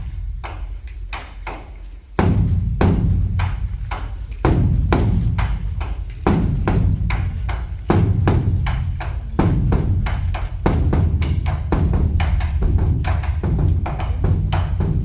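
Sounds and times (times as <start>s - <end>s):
deep booming drum strokes: 0.0s - 15.0s.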